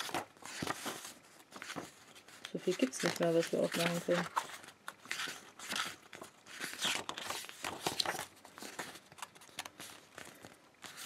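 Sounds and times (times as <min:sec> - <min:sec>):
cardboard pages rustling: 0:00.0 - 0:11.0.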